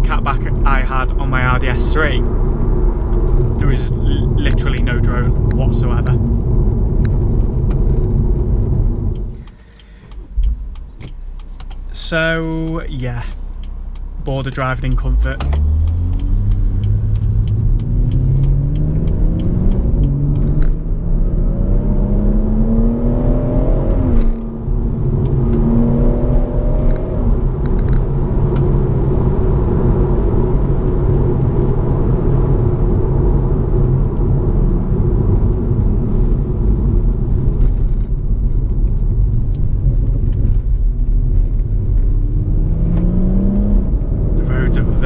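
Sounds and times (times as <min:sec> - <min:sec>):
car engine from inside cabin: 0:00.0 - 0:45.0
road rumble: 0:00.0 - 0:45.0.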